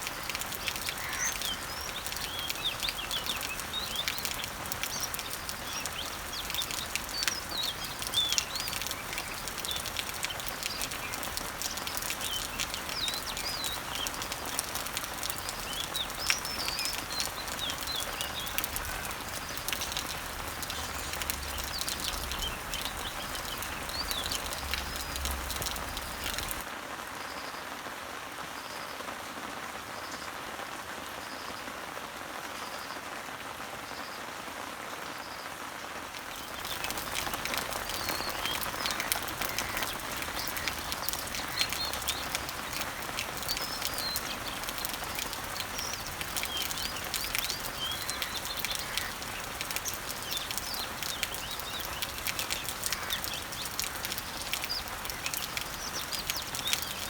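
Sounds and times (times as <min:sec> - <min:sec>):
birds chirping: 0:00.0 - 0:26.7, 0:36.2 - 0:57.0
rain falling on leaves: 0:00.0 - 0:57.0.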